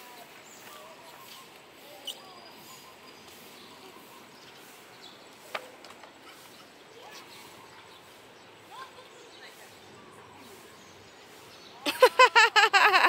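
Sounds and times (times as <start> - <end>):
faint chirps: 0.0 - 11.8
low outdoor hiss: 0.0 - 13.0.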